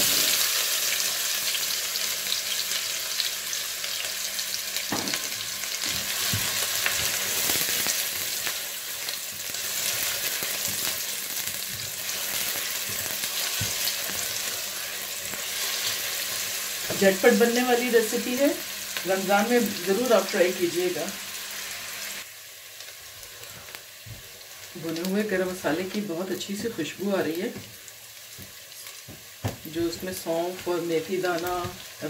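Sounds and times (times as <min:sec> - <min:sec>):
onion sizzling in hot fat: 0:00.0 - 0:32.0.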